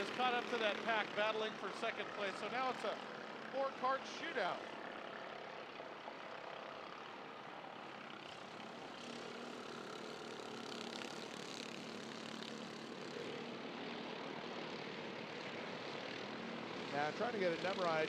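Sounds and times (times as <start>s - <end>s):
kart engines droning: 0.0s - 18.0s.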